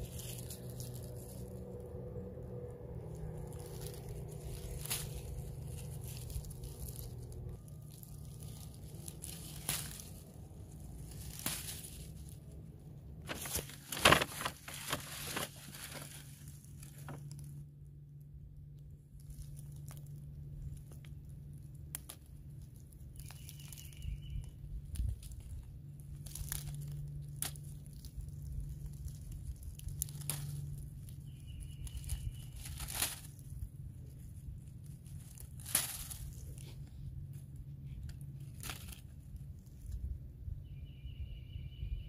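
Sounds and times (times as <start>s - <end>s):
dry leaves rustling and crackling: 0.0s - 40.6s.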